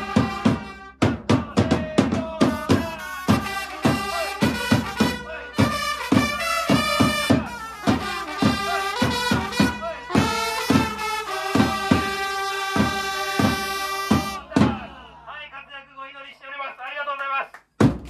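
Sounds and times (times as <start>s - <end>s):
trumpets playing in unison: 0.0s - 15.1s
sharp accented beats: 0.0s - 15.3s
chants through a megaphone: 0.0s - 16.3s.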